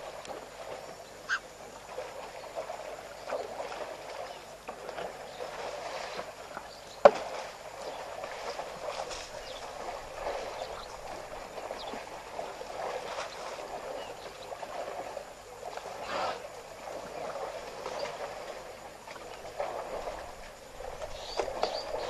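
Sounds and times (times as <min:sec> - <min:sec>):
elephants splashing in water: 0:00.0 - 0:22.0.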